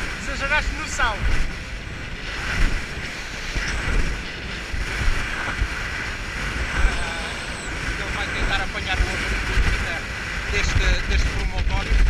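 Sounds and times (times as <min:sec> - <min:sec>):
water rushing past hull: 0:00.0 - 0:12.0
wind buffeting microphone: 0:00.0 - 0:12.0.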